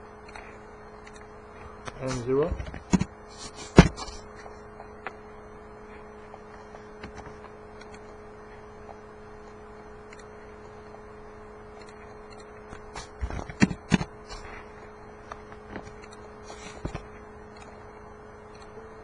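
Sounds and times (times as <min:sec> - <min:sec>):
steady two-pitch hum: 0:00.0 - 0:19.0.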